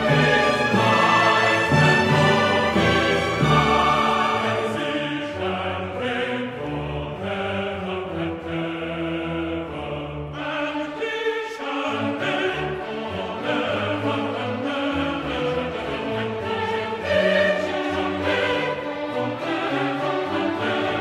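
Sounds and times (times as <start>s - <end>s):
orchestral music with choir: 0.0s - 21.0s.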